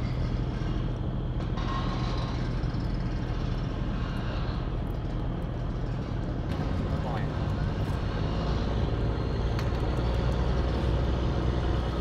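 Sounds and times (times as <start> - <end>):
constant hum: 0.0 - 12.0
low engine rumble: 0.0 - 12.0.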